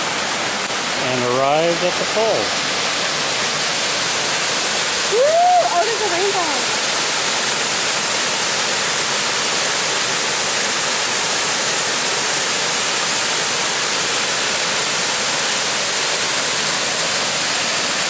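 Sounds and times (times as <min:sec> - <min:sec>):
waterfall rushing onto boulders: 0:00.0 - 0:18.0.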